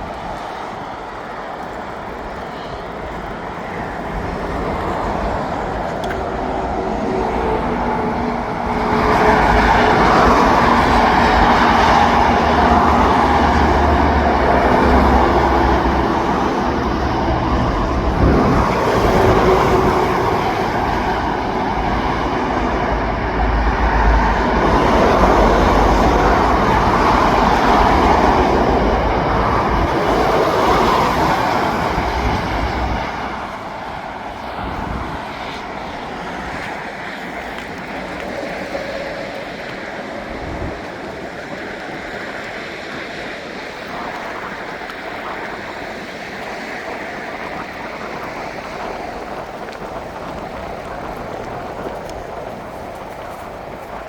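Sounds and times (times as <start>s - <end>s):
heavy vehicle running: 0.0s - 54.0s.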